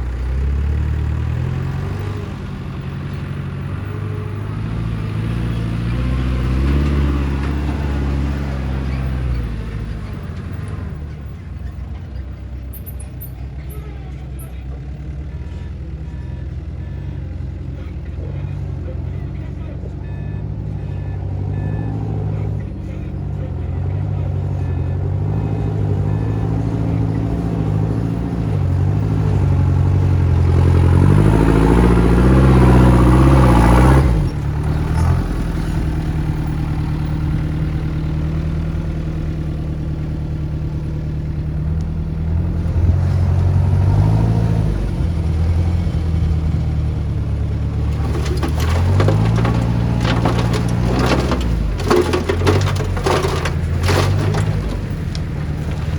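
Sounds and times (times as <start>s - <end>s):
heavy diesel engine revving: 0.0s - 11.1s, 14.1s - 55.9s.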